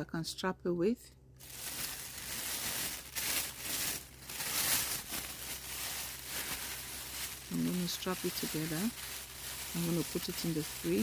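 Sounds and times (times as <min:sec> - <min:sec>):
plastic bag crinkling: 0:01.4 - 0:11.0.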